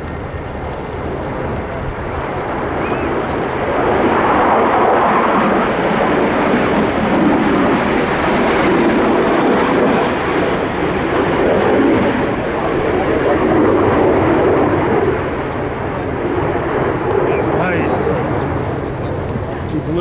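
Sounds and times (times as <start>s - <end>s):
military aircraft engine roar: 0.0s - 20.0s.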